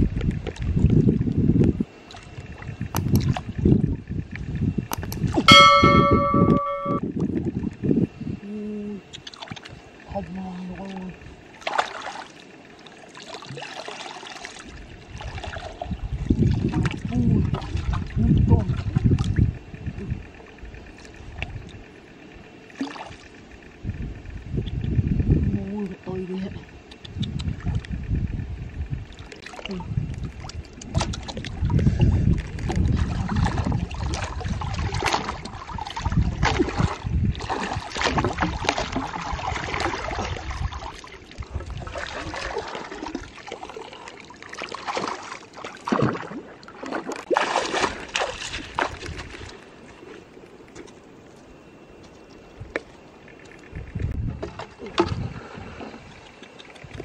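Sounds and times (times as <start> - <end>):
wind buffeting microphone: 0.0 - 11.5, 14.7 - 22.7, 23.4 - 43.4, 47.6 - 49.6, 52.4 - 57.0
water sloshing and gurgling: 0.0 - 57.0.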